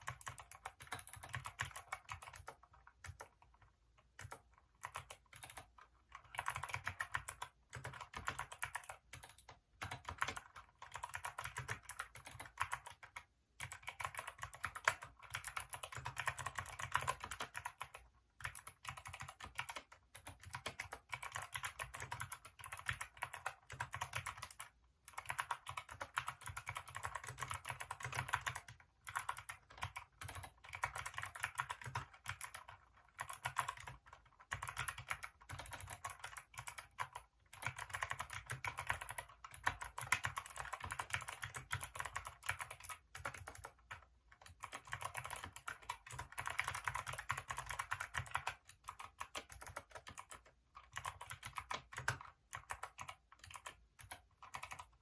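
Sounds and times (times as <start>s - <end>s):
fast mechanical keyboard typing: 0.0s - 55.0s.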